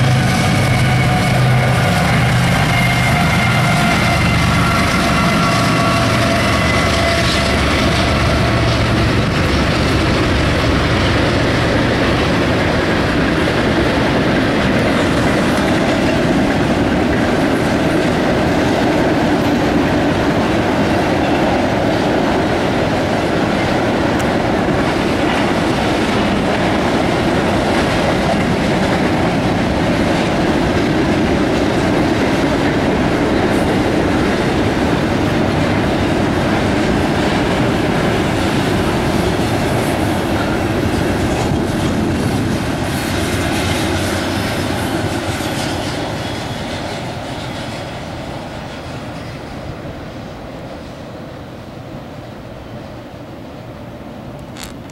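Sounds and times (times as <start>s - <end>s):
freight train wheels clattering: 0.0s - 49.9s.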